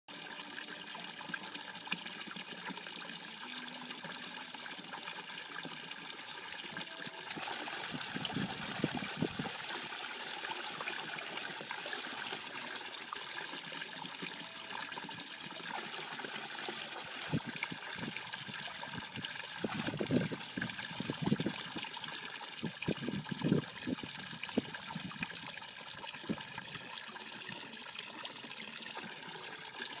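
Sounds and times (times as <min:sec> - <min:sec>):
water gurgling: 0:00.1 - 0:30.0
water trickling and splashing: 0:00.1 - 0:30.0.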